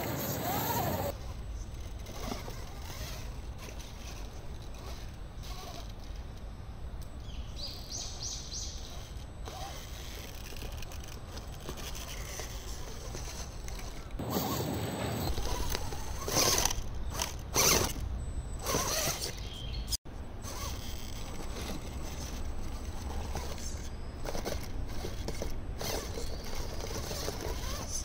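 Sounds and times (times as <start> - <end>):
tires scraping on stone: 0.0 - 6.4, 7.6 - 28.0
toy car motor whirring: 0.0 - 6.4, 8.5 - 14.6, 15.2 - 19.6, 20.4 - 28.0.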